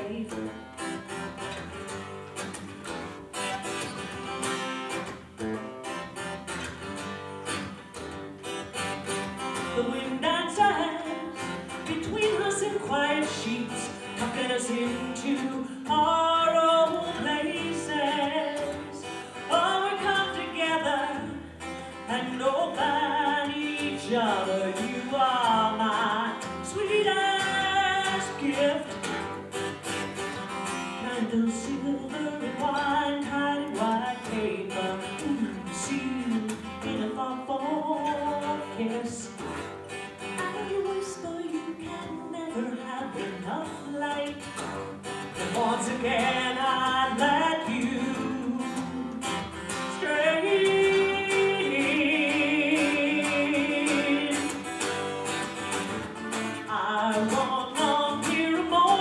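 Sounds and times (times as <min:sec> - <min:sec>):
woman singing: 0:00.0 - 0:01.0, 0:09.4 - 0:29.8, 0:30.7 - 0:59.0
strummed acoustic guitar: 0:00.0 - 0:59.0.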